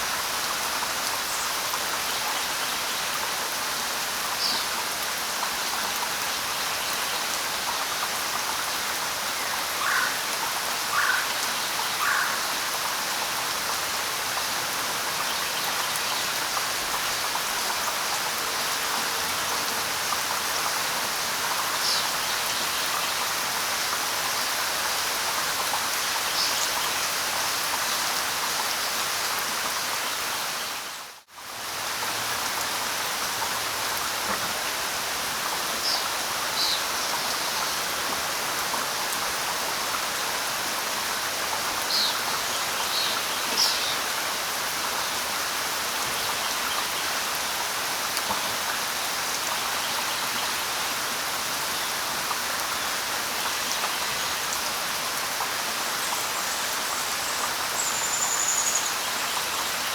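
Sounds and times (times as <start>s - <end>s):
light rain on leaves: 0.0s - 59.9s.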